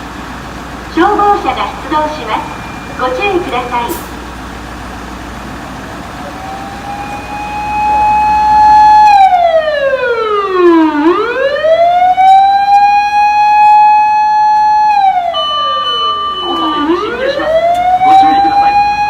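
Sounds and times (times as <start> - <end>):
fire engine siren: 0.0 - 19.0.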